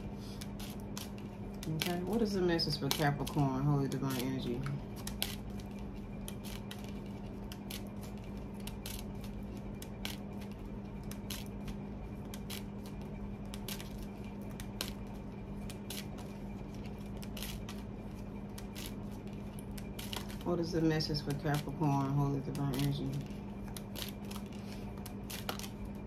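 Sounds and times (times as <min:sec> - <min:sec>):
low hum: 0:00.0 - 0:26.0
cards being shuffled: 0:00.1 - 0:26.0.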